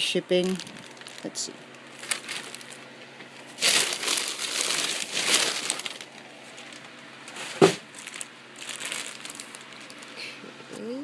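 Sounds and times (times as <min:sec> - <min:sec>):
paper packing material rustling: 0:00.3 - 0:02.9, 0:03.5 - 0:10.3.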